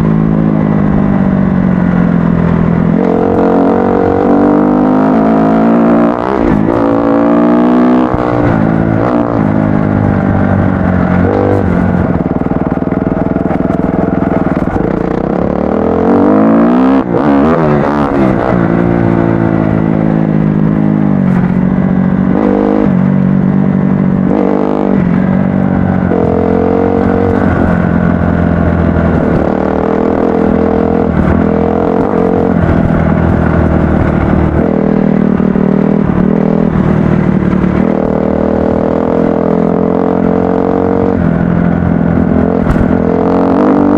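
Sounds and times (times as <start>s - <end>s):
dirt bike engine revving: 2.4s - 43.9s.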